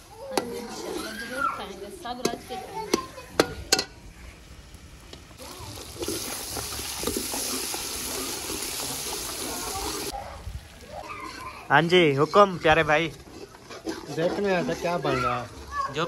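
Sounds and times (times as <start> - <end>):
meat sizzling in pot: 0.0 - 16.0.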